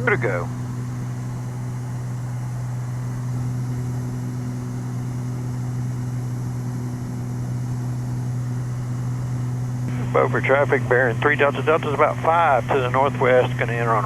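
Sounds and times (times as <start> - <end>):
airplane engines droning: 0.0 - 14.0.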